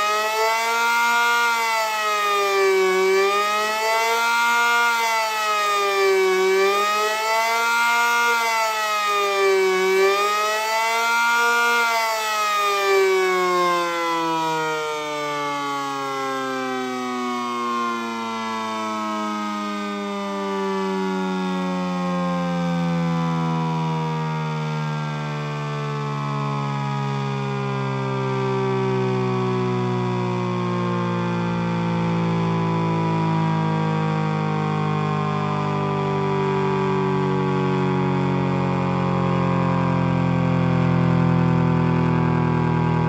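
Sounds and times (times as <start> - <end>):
siren rising and falling: 0.0 - 43.0.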